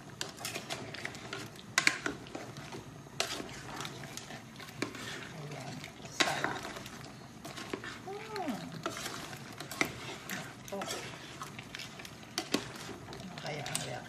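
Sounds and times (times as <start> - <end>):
spoon stirring thick sauce: 0.1 - 14.0.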